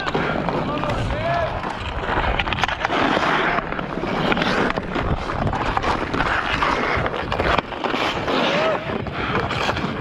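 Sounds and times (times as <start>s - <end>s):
skates scraping on ice: 0.0s - 10.0s
sticks clicking on puck: 0.0s - 10.0s.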